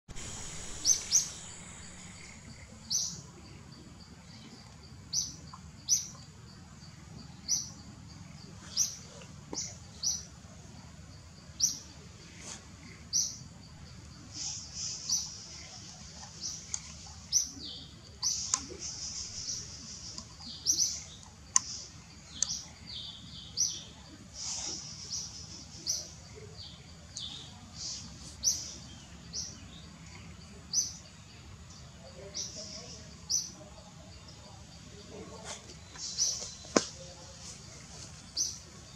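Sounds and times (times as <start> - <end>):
forest ambience hum: 0.1 - 38.9
small birds chirping: 0.1 - 38.9.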